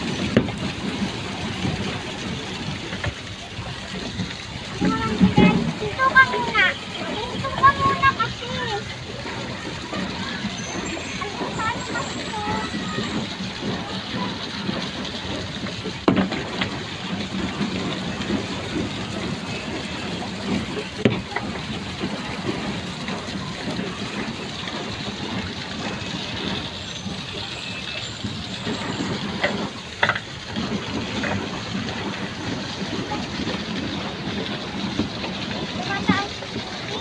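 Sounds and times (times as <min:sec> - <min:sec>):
water rushing: 0:00.0 - 0:37.0
wind: 0:00.0 - 0:37.0.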